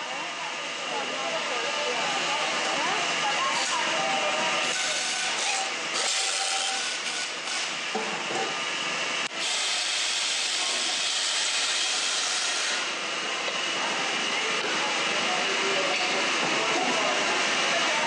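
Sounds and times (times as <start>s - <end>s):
loud machinery hiss: 1.3s - 8.0s, 8.6s - 18.0s.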